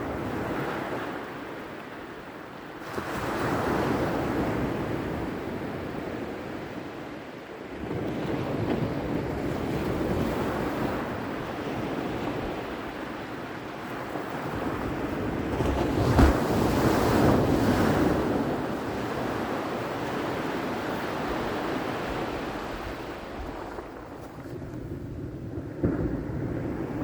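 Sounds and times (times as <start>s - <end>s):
ocean waves washing ashore: 0.0s - 27.0s.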